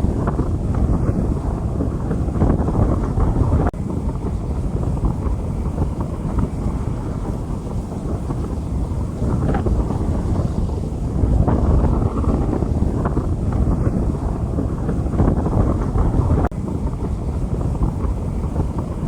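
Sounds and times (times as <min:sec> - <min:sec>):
heavy low rumble: 0:00.0 - 0:19.0.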